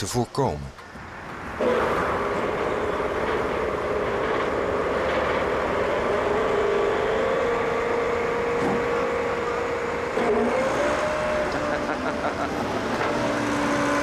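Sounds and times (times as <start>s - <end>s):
vehicle engine whining: 0.7s - 14.0s.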